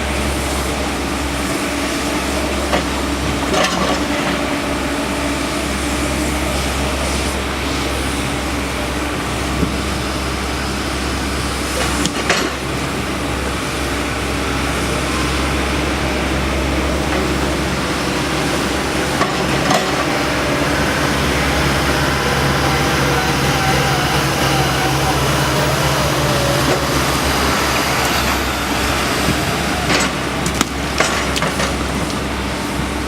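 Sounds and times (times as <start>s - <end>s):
excavator engine and hydraulics: 0.0s - 33.0s.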